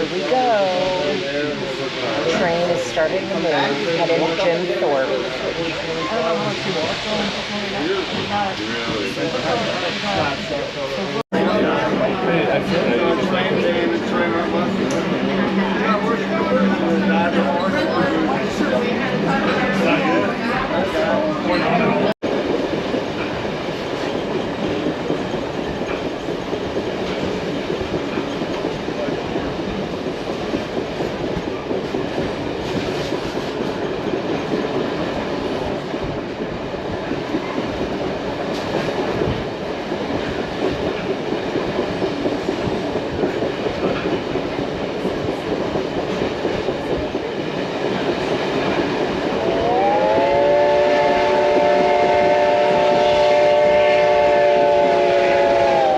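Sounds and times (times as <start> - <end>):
train rumble and wheel clatter: 0.0 - 55.9.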